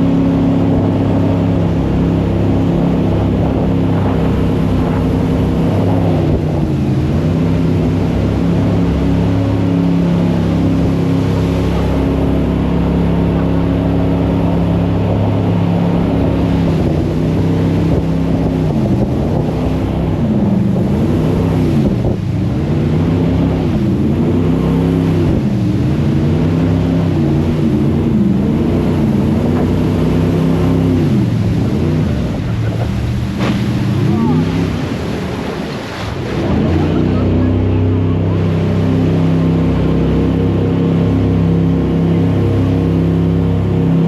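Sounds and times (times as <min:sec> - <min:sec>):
boat engine revving: 0:00.0 - 0:44.0.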